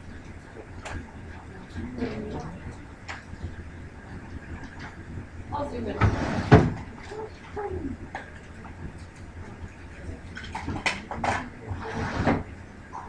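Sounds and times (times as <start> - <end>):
faint murmured voices: 0.5 - 13.0.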